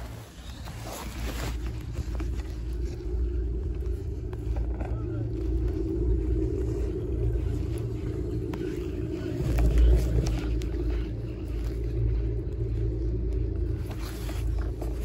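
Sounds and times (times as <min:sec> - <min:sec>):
chairlift low rumble: 0:00.0 - 0:15.0.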